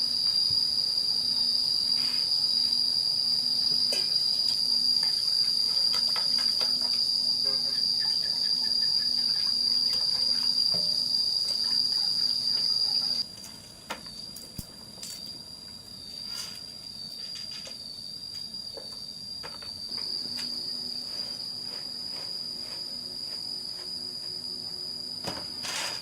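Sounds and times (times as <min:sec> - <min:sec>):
high-pitched insect drone: 0:00.0 - 0:13.2, 0:14.0 - 0:26.0.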